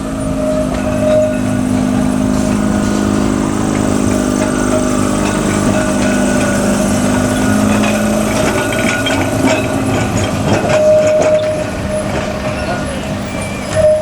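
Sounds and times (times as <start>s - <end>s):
tram motor hum: 0.0s - 14.0s
wheels clicking over track: 0.0s - 14.0s.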